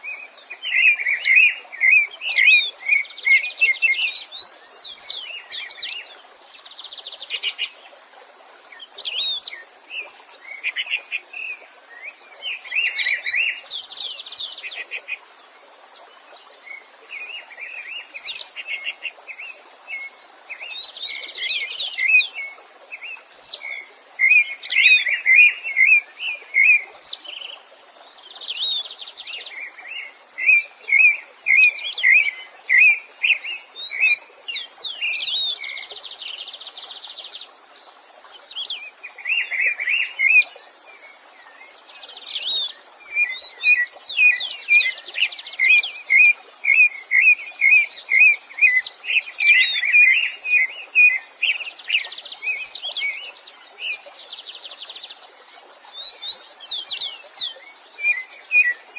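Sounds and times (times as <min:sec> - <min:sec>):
faint stream hiss: 0:00.0 - 0:58.9
songbirds singing: 0:00.0 - 0:58.9.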